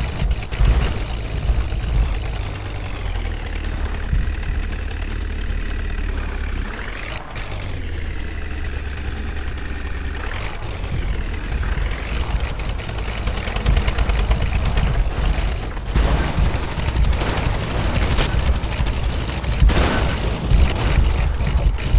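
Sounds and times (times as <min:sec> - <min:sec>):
heavy diesel engine under load: 0:00.0 - 0:21.9.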